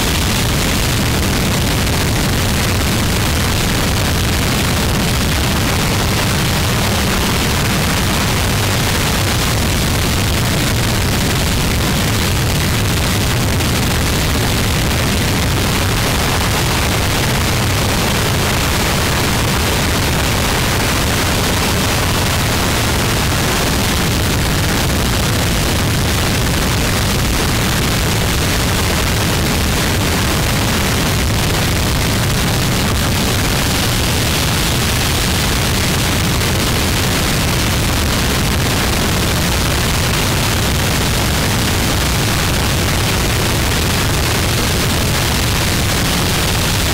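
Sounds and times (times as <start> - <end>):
harsh distorted static noise music: 0.0 - 46.9.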